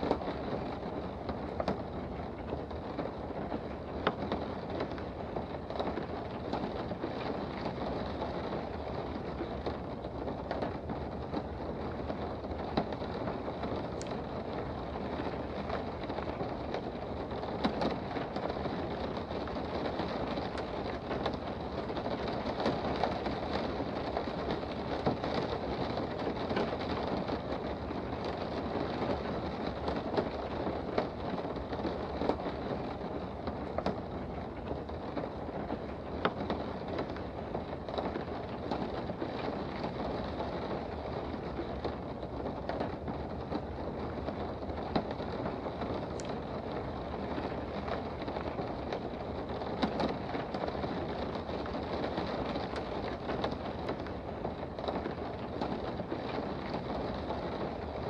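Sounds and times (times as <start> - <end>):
raindrops ticking: 0.0 - 58.0
steady rain hiss: 0.0 - 58.0.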